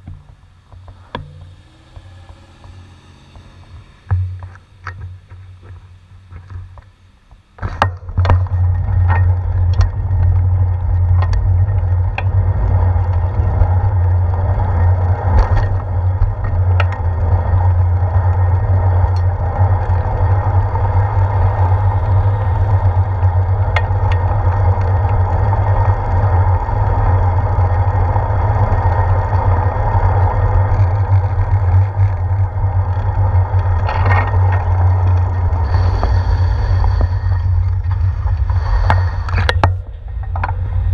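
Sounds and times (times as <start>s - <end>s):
wind rumbling on microphone: 0.0s - 40.9s
bicycle clicks and rattles: 4.0s - 40.9s.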